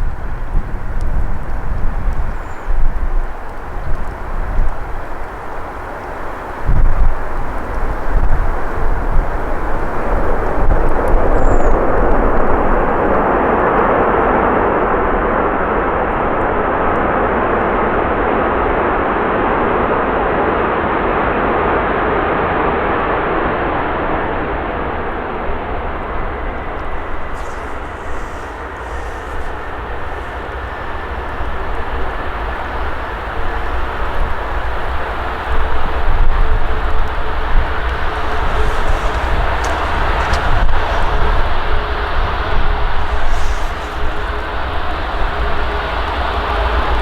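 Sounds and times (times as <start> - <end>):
jet engines passing close: 0.0 - 47.0
wind rumble on microphone: 0.0 - 47.0.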